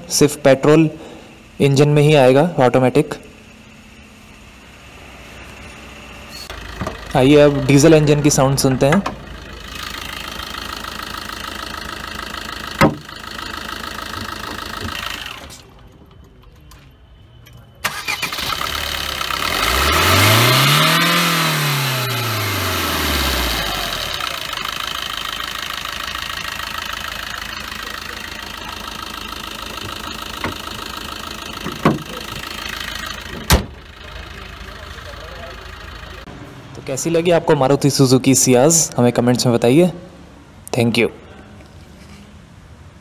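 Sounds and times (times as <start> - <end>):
diesel engine starting and revving: 0.0 - 16.4, 17.5 - 40.6.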